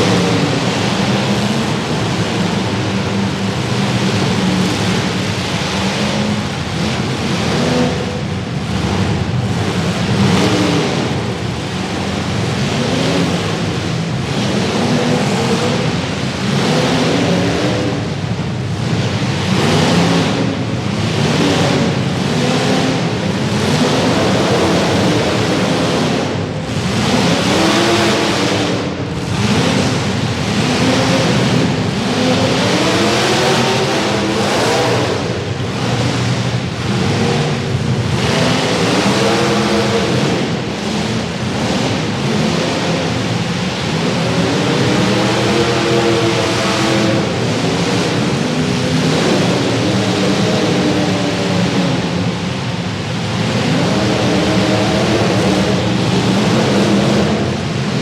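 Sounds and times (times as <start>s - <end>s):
car engines revving: 0.0s - 58.0s
loud rumble of engines: 0.0s - 58.0s.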